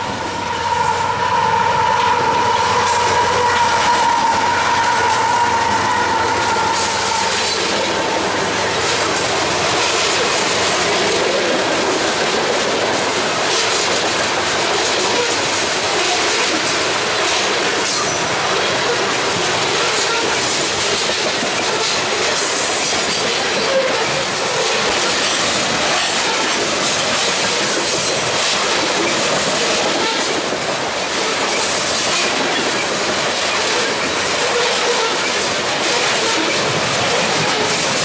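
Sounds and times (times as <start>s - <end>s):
freight train wheels on rails: 0.0s - 38.0s.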